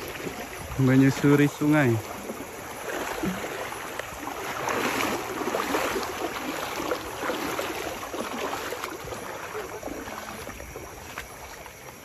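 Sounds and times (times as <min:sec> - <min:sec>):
wading through river water: 0:00.0 - 0:12.0.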